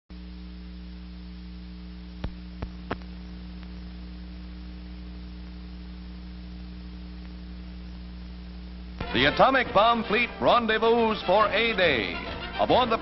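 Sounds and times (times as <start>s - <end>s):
film soundtrack hum and hiss: 0.1s - 13.0s.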